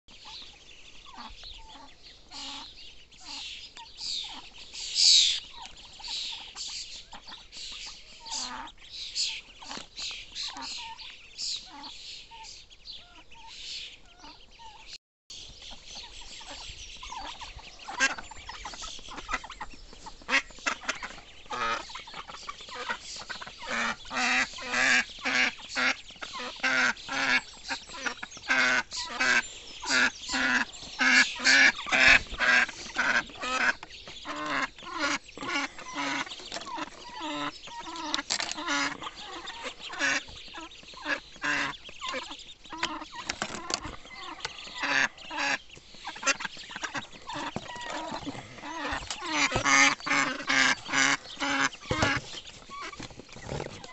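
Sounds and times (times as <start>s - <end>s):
ducks quacking: 0.1s - 14.9s, 15.6s - 53.9s.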